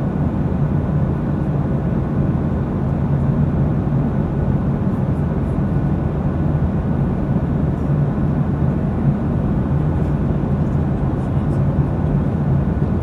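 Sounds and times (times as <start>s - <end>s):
constant low hum: 0.0s - 13.0s
jet cabin engine noise: 0.0s - 13.0s.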